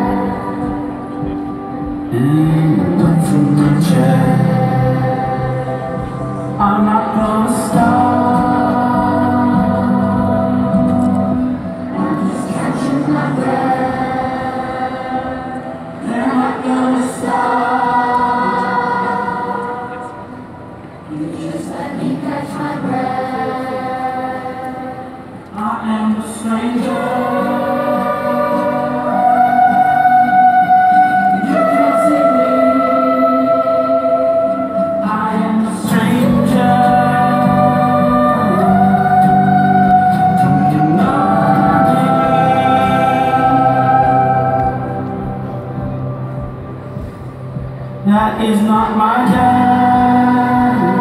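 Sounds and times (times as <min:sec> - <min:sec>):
choir singing long notes: 0:00.0 - 0:51.0.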